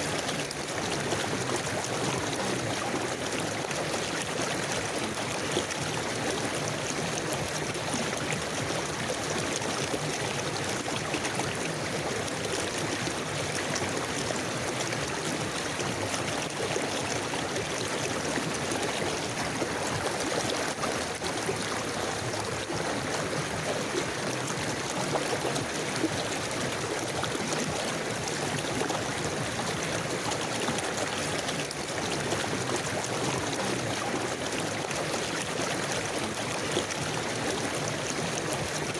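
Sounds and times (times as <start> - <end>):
stream water rushing and gurgling: 0.0 - 38.9.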